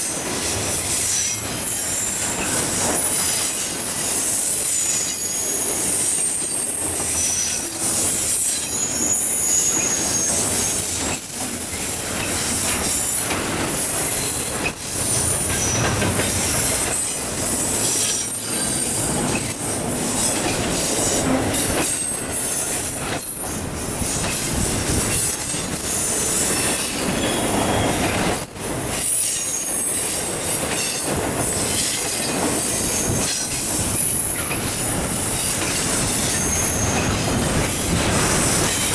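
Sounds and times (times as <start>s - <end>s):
steel wheels squealing: 0.0s - 38.9s.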